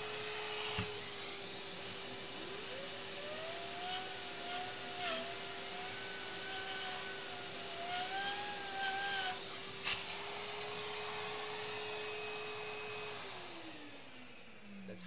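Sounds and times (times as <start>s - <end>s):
vacuum cleaner whine: 0.0s - 15.0s.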